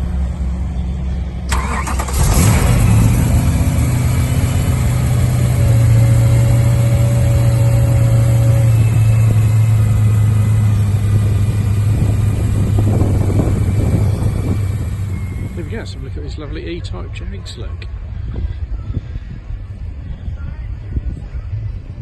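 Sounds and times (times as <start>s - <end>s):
car engine running: 0.0s - 18.8s.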